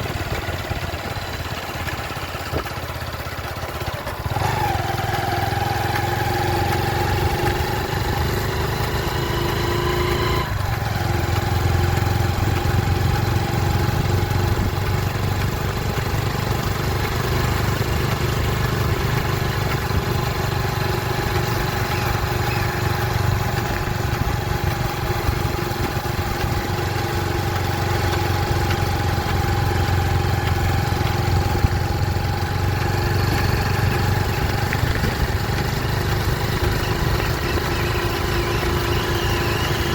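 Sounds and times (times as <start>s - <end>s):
vehicle engine rumbling and whining: 0.0s - 39.9s.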